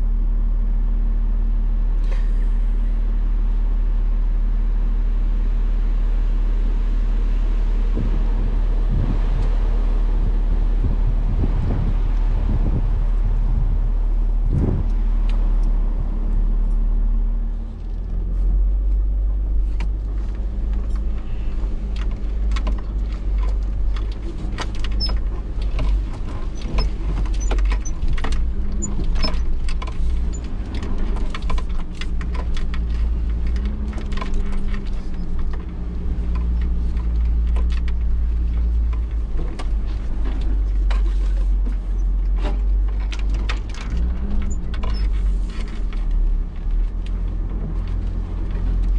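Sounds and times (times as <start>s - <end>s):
engine rumbling at low revs: 0.0s - 48.9s.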